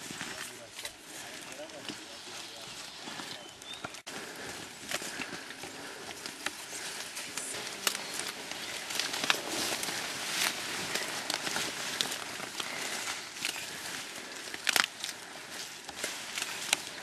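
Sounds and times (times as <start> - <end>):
undergrowth rustling and crackling: 0.0 - 17.0
stems snapping: 3.1 - 17.0.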